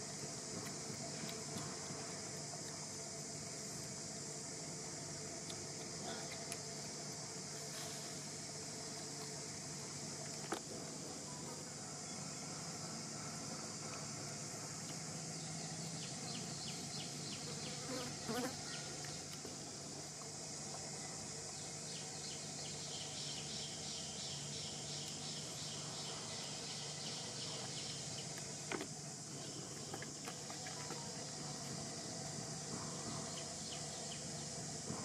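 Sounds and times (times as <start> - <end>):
insect chorus hiss: 0.0 - 35.0
rapid pulsing insect chirp: 0.0 - 35.0.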